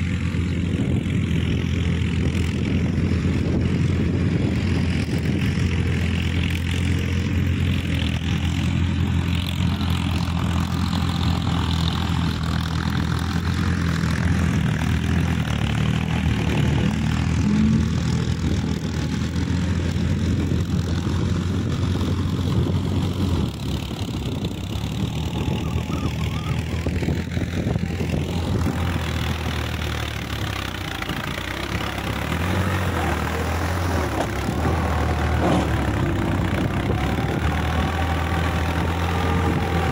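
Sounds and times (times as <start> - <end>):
diesel tractor engine drone: 0.0 - 39.9.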